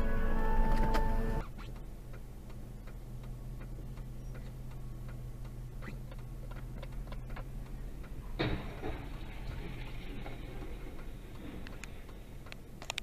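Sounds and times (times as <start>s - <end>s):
idling engine hum: 0.0s - 13.0s
turn signal ticking: 0.0s - 13.0s.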